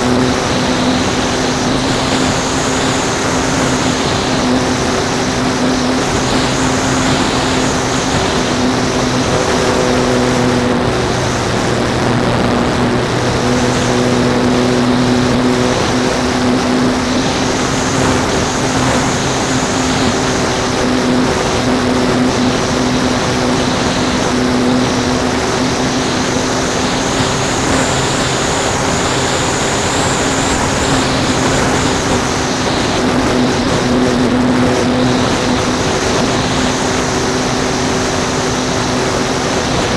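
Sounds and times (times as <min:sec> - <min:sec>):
model airplane motor buzzing: 0:00.0 - 0:39.9
wind rushing over microphone: 0:00.0 - 0:39.9.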